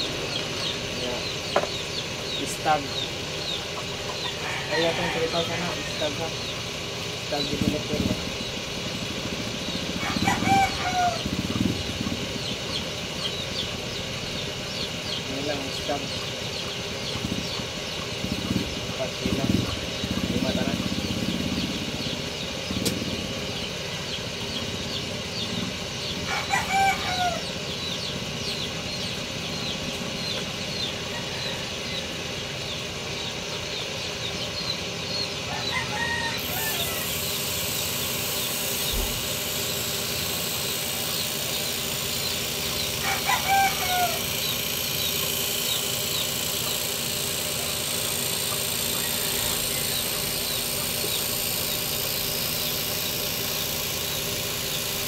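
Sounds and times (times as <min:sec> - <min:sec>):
roosters crowing: 0:00.0 - 0:55.0
steady background hum: 0:00.0 - 0:55.0.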